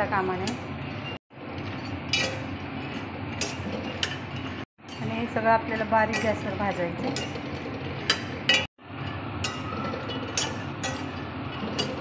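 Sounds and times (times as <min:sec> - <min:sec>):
spatula scraping steel pan: 0:00.4 - 0:12.0.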